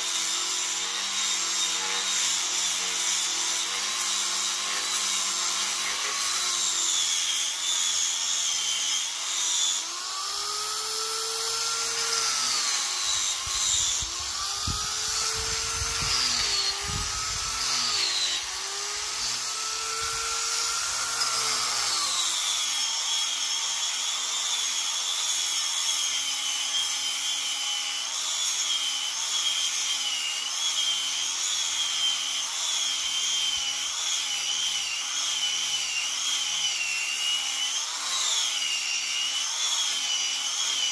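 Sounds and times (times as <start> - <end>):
angle grinder motor whine: 0.0 - 40.9
sanding disc rasping on wood: 0.0 - 40.9.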